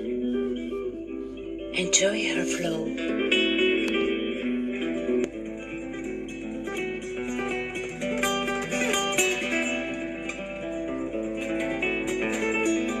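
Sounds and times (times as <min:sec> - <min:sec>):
acoustic guitar plucking and strumming: 0:00.0 - 0:13.0.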